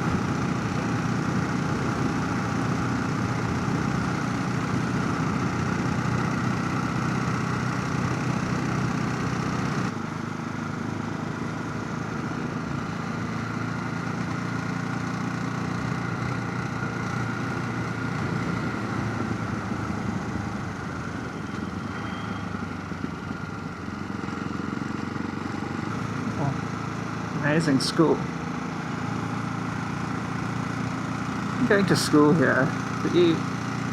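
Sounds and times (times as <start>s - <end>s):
motorcycle engine running: 0.0s - 33.9s
wind and road noise: 0.0s - 33.9s.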